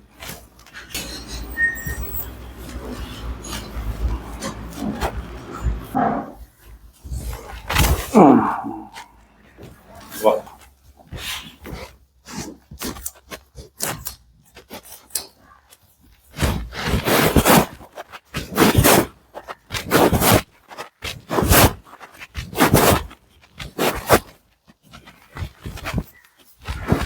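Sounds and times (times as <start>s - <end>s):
soft rustles: 0.0s - 27.0s.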